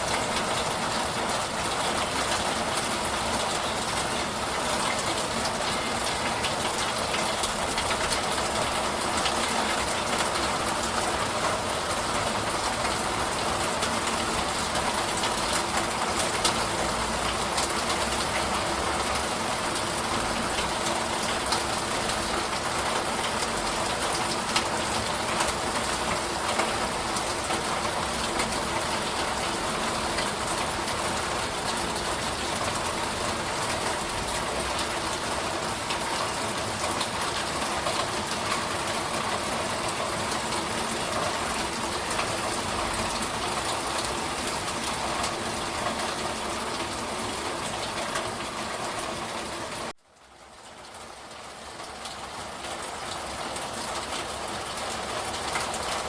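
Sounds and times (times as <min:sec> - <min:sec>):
heavy rain: 0:00.0 - 0:56.0
rain drop ticks: 0:01.6 - 0:49.2, 0:49.8 - 0:56.0.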